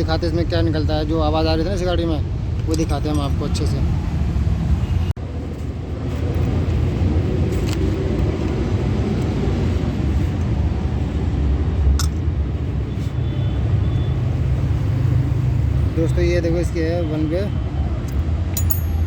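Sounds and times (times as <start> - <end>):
motor vehicles rumbling: 0.0 - 19.0.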